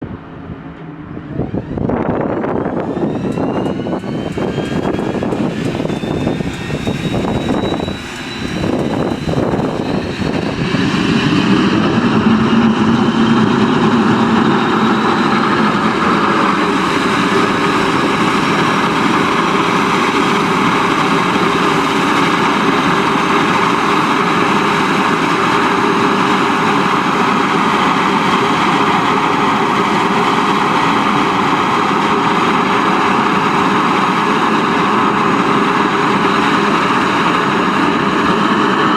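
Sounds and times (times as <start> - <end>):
helicopter turbine whine: 0.0 - 38.9.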